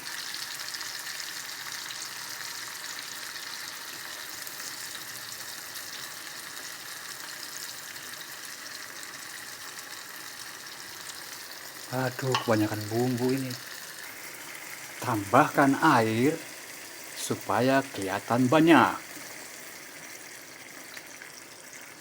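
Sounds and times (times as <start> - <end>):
paste sizzling in butter: 0.1 - 22.0.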